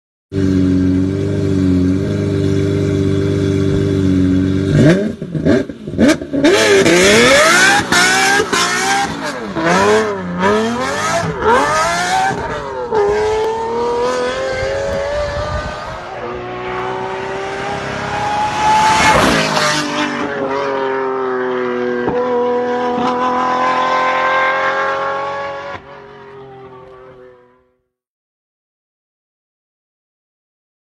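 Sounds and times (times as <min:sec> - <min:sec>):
sports car engine revving: 0:00.4 - 0:27.2.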